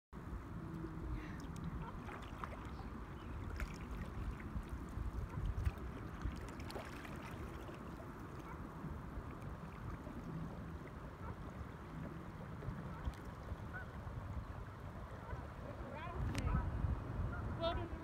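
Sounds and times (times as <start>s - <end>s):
low steady rumble: 0.2s - 18.0s
water lapping against a hull: 0.2s - 18.0s.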